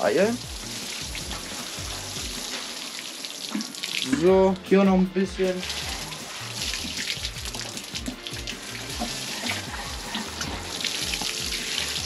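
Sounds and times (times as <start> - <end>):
background music: 0.0 - 12.0
water pouring onto soil: 0.0 - 12.0.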